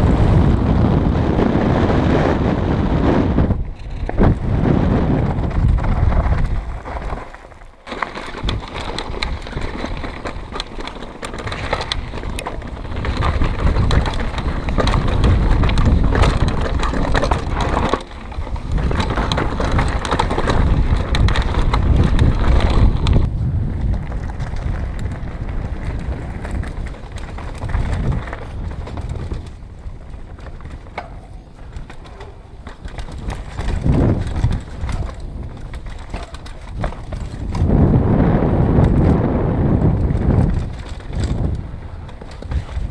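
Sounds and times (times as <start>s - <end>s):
bike rattling over bumps: 0.0s - 42.9s
wind buffeting microphone: 0.0s - 42.9s
tyres crunching over stones: 3.7s - 42.9s.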